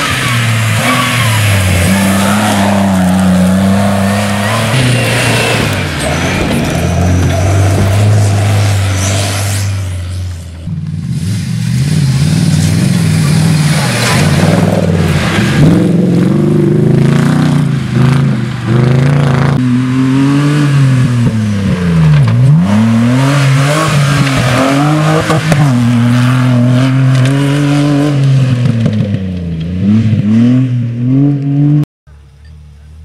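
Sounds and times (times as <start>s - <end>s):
engines revving hard: 0.0s - 10.3s, 11.0s - 31.8s.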